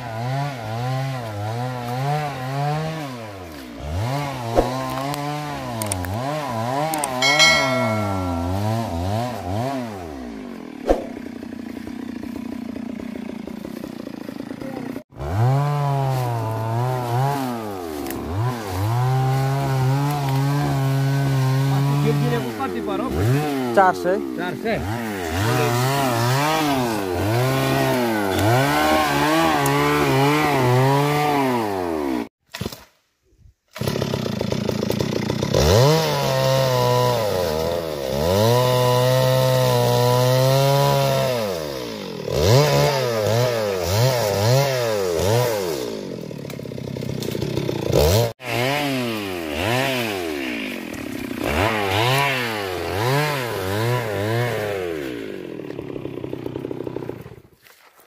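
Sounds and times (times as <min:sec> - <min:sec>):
chainsaw cutting wood: 0:00.0 - 0:33.0, 0:33.7 - 0:57.9.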